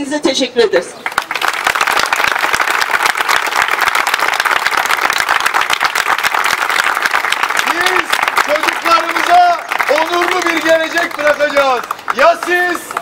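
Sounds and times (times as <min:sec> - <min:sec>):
crowd applauding: 0:01.0 - 0:13.0.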